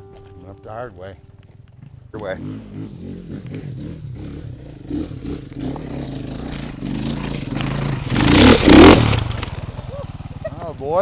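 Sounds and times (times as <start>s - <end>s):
vehicle engine revving: 1.7s - 11.0s.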